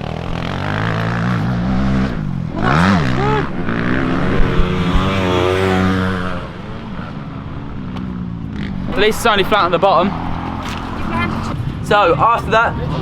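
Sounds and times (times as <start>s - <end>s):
dirt bike engine revving: 0.0s - 12.2s.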